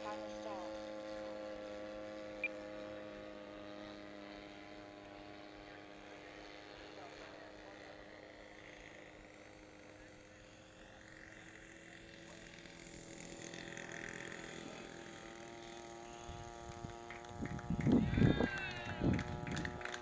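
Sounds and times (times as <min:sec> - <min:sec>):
model plane engines running: 0:00.0 - 0:20.0.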